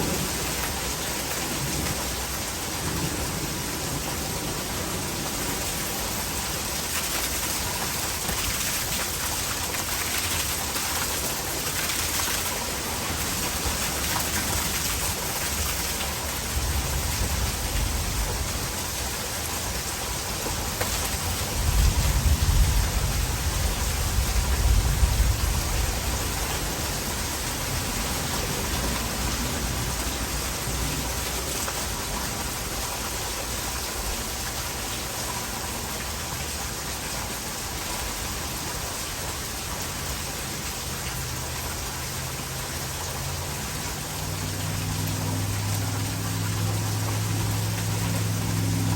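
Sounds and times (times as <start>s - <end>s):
heavy rain pouring: 0.0s - 48.9s
rainwater running into gutter: 0.0s - 48.9s.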